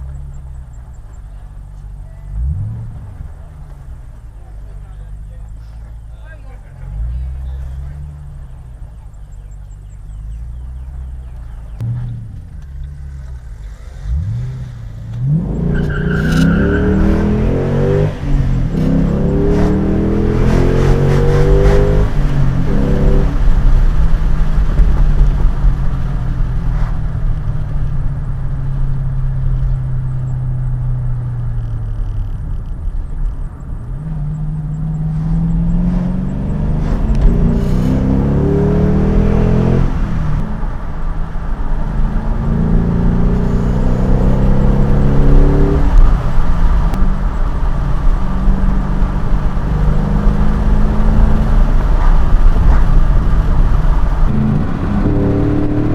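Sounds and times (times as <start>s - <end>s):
car engine accelerating through gears: 0.0s - 55.9s.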